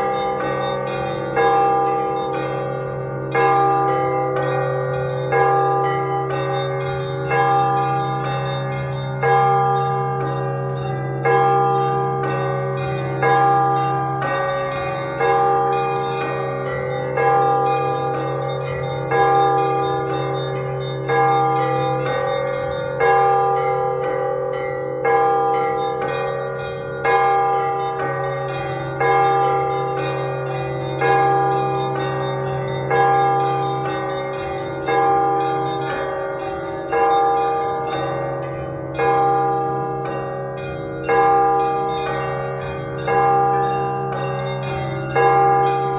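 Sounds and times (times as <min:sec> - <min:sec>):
big church bell struck: 0:00.0 - 0:45.9.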